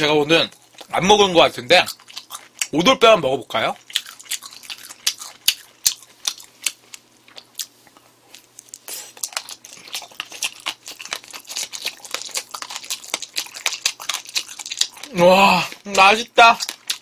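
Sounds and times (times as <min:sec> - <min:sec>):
crunchy chewing: 0:01.8 - 0:02.8, 0:03.5 - 0:17.0.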